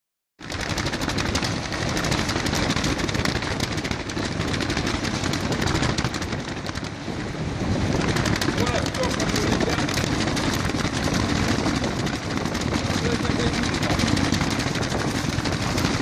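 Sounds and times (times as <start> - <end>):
wind buffeting microphone: 0.4 - 16.0.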